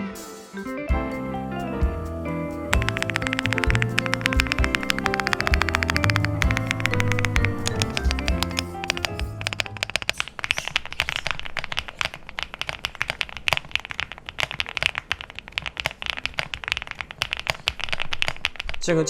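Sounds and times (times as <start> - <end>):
mechanical keyboard typing: 2.7 - 18.9.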